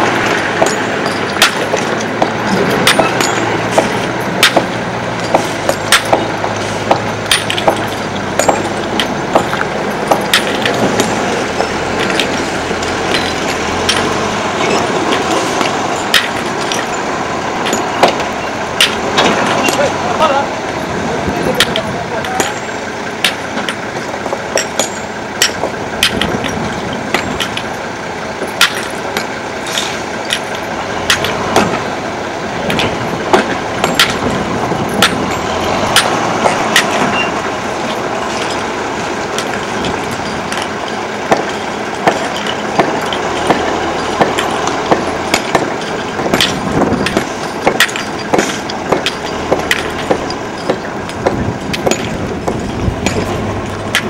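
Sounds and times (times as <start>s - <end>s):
hammers striking rocks: 0.0s - 17.0s, 17.6s - 20.4s, 21.3s - 27.8s, 28.4s - 31.9s, 32.6s - 54.0s
steady background noise: 0.0s - 54.0s.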